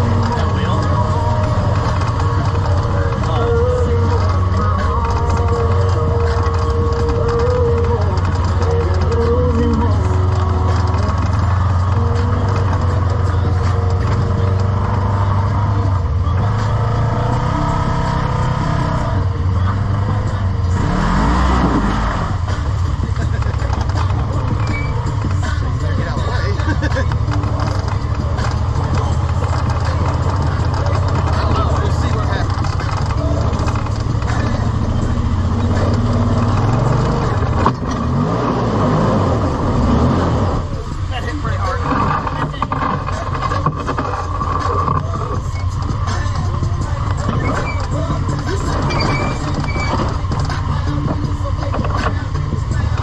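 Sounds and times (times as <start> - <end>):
engine running and revving: 0.0 - 53.0.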